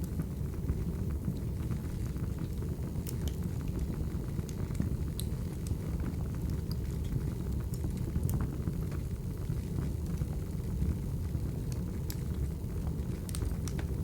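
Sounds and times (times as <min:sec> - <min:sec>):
crackling wood fire: 0:00.0 - 0:14.0.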